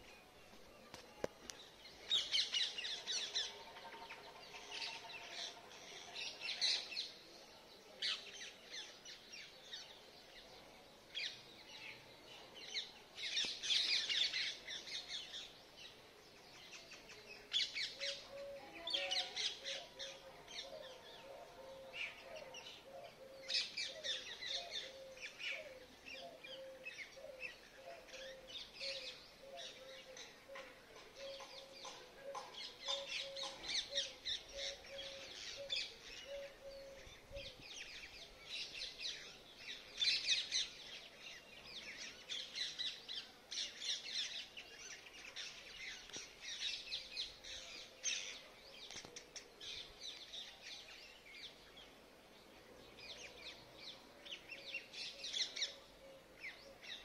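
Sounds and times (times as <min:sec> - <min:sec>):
birds chirping: 0:08.1 - 0:57.0.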